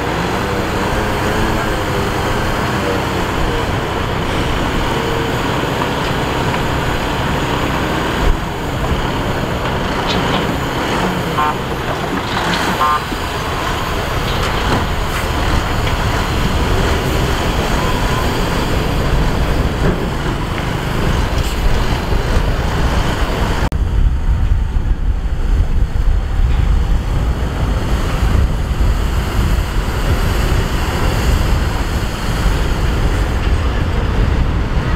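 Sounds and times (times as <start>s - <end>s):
diesel truck engines rumbling: 0.0s - 34.9s
wind on microphone: 0.0s - 34.9s.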